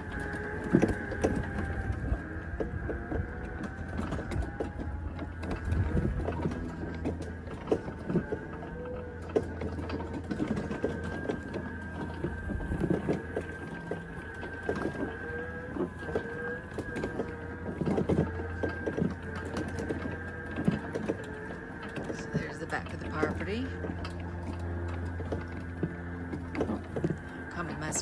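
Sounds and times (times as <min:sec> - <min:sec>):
electric mower motor whine: 0:00.0 - 0:28.0.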